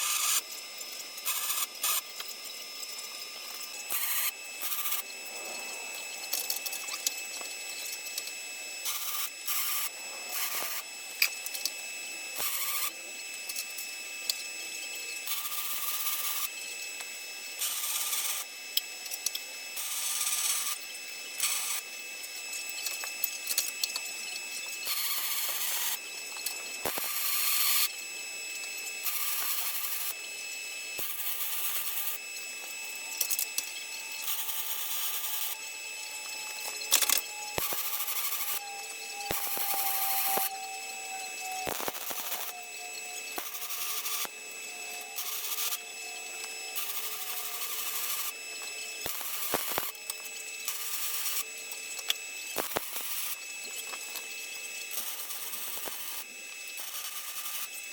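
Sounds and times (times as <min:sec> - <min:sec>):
steady whine: 0:00.0 - 0:56.8
electric arc welding: 0:00.0 - 0:57.9.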